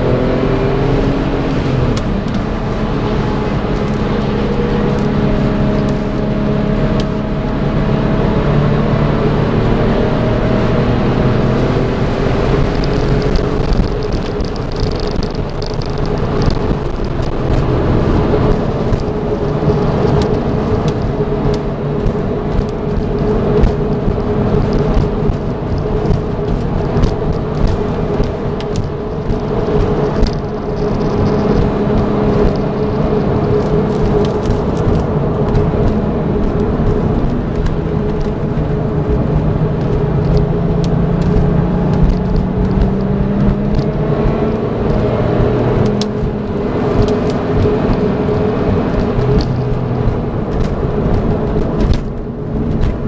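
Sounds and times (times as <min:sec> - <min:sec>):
car engine while driving: 0:00.0 - 0:53.0
road and wind noise: 0:00.0 - 0:53.0.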